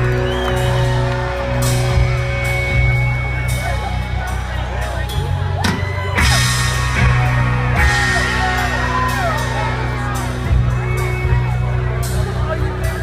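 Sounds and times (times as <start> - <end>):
crowd whooping and yelling: 0.0 - 13.0
live rock band playing: 0.0 - 13.0.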